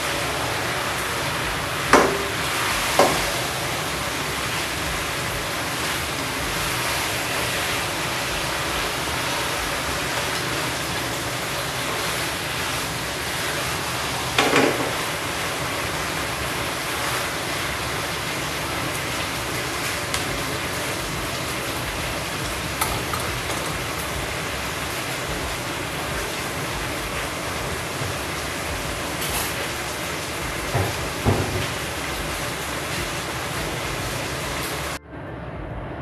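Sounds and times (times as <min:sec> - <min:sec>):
noodles sizzling in a wok: 0:00.0 - 0:35.0.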